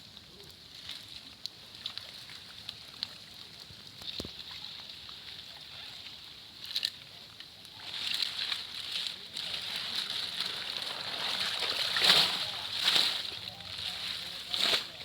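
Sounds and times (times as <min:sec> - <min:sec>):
water sloshing and splashing: 0:00.2 - 0:15.0.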